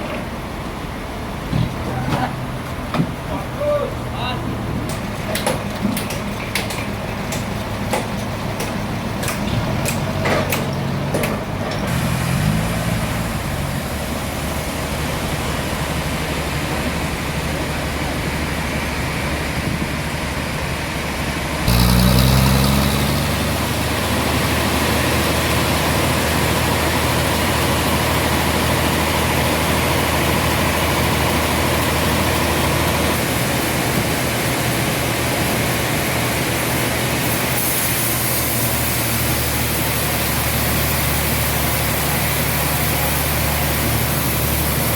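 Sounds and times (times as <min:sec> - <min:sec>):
large engine running: 0:00.0 - 0:44.9.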